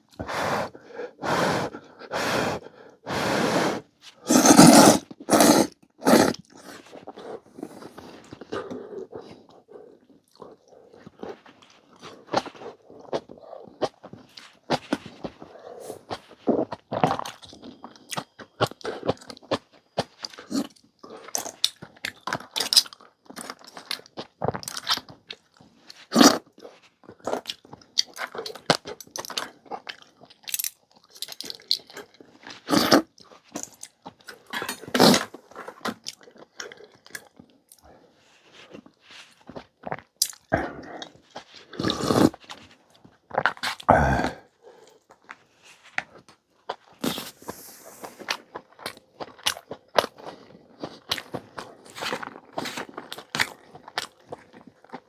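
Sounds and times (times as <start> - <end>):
chewing and crunching bites: 4.3 - 55.0.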